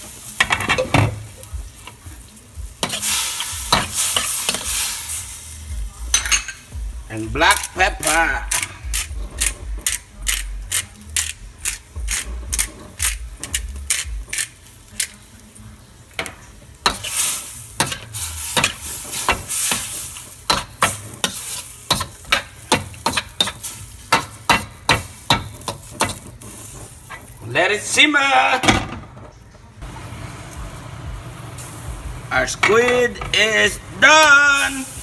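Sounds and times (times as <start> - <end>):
pan sizzling: 0.0 - 29.2, 29.8 - 35.0.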